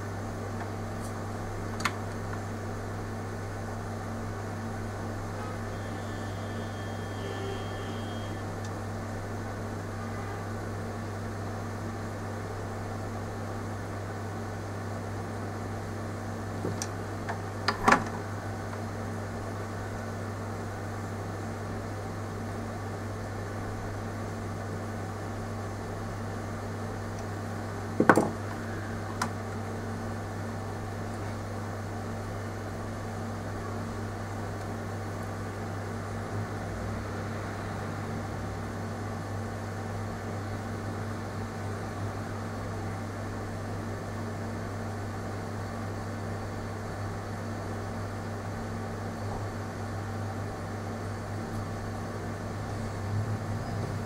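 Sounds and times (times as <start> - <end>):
electrical hum with fan hiss: 0.0 - 54.0.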